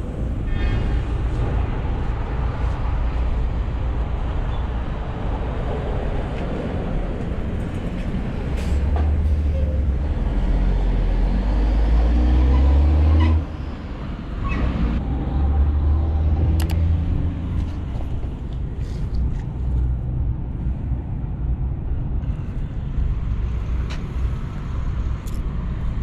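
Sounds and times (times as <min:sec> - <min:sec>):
car engine and exhaust drone: 0:00.0 - 0:26.0.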